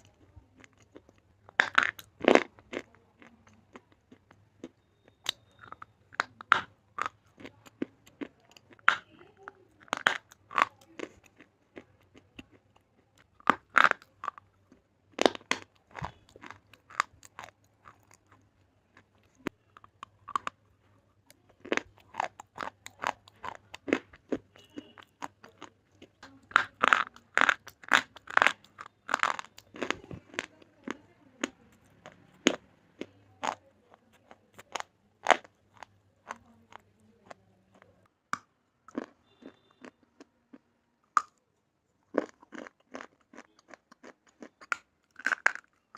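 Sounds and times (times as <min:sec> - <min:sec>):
slate pencil being chewed: 0:00.0 - 0:20.6, 0:21.2 - 0:37.9, 0:42.1 - 0:45.9.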